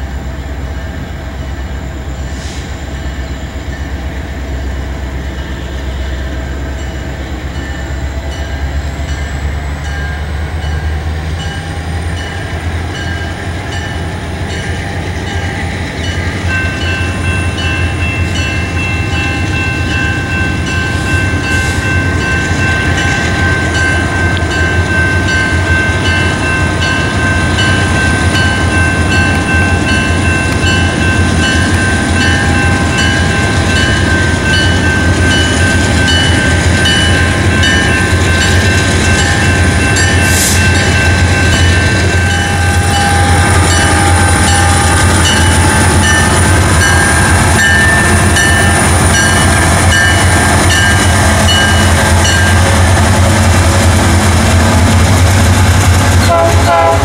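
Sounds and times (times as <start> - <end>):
locomotive engines droning: 0.0 - 57.0.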